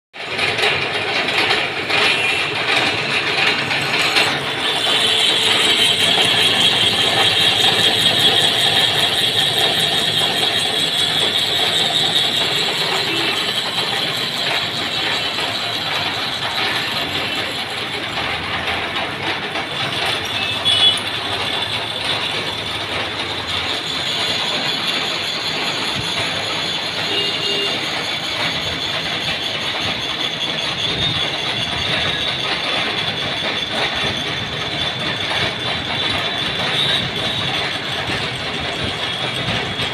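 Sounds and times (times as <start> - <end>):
machine mechanical rattle: 0.2 - 39.9.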